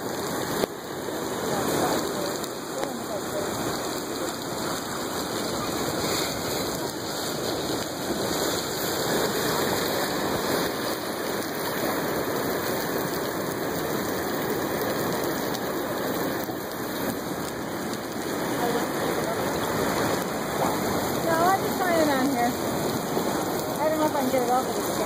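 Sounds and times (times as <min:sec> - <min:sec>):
ocean waves and surf: 0:00.0 - 0:25.0.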